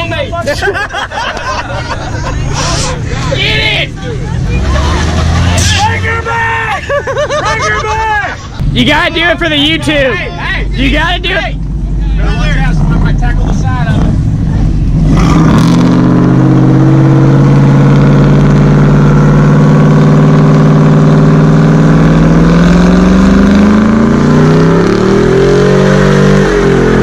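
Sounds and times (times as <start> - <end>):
truck engine revving: 1.0 - 27.0.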